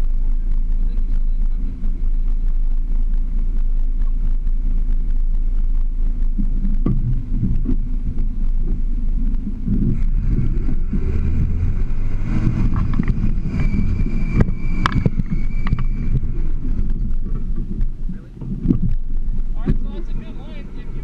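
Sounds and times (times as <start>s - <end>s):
truck engine at low revs: 0.0s - 21.0s.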